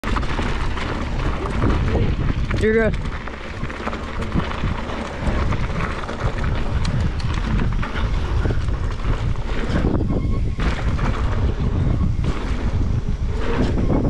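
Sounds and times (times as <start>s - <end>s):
bike clicks and rattles: 0.0s - 14.0s
tyres rumbling on dirt: 0.0s - 14.0s
wind buffeting microphone: 0.0s - 14.0s.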